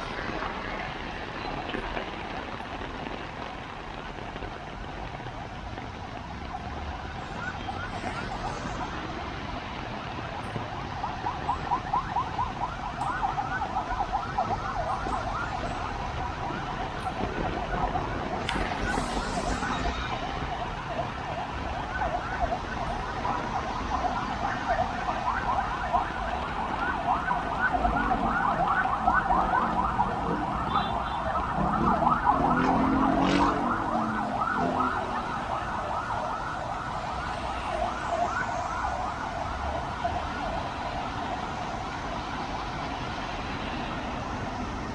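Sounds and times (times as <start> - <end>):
city traffic noise: 0.0 - 44.9
warbling siren: 6.4 - 43.2.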